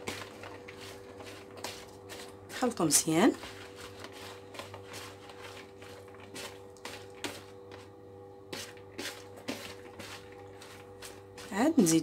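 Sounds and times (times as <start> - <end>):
hand squishing pasta in bowl: 0.0 - 7.9, 8.5 - 12.0
steady low hum: 0.0 - 12.0.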